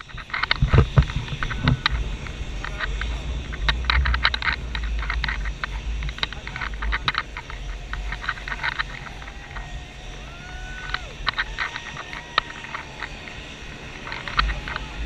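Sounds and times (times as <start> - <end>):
irregular clicks and crackles: 0.0 - 15.0
wind on microphone: 0.0 - 15.0.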